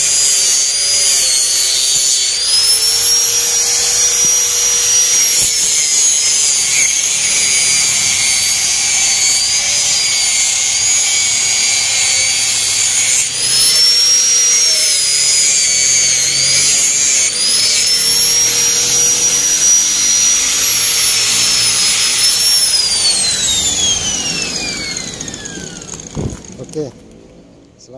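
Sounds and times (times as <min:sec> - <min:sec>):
angle grinder whining: 0:00.0 - 0:27.4.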